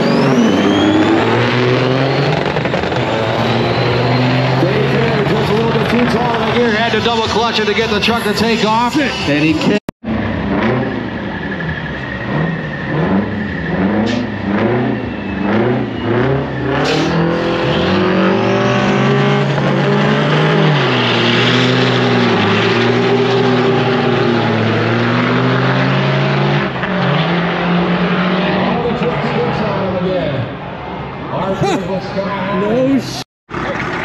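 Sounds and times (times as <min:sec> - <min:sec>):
diesel truck engines revving: 0:00.0 - 0:34.0.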